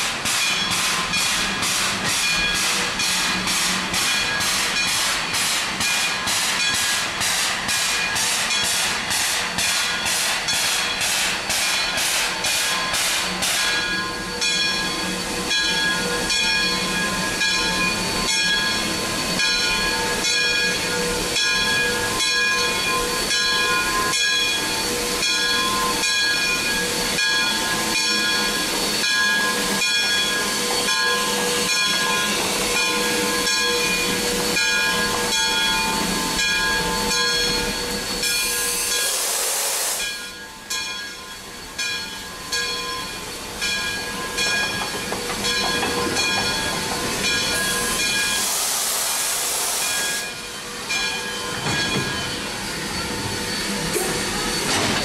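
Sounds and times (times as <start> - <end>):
steam hiss: 0.0 - 55.0
steam locomotive chuffing: 0.0 - 55.0.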